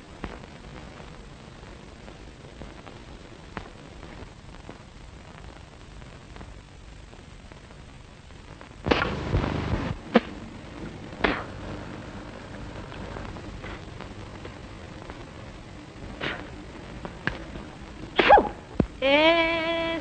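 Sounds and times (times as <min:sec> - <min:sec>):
sharp crack: 0:00.0 - 0:19.1
film soundtrack hiss: 0:00.0 - 0:20.0
noisy burst: 0:00.0 - 0:20.0.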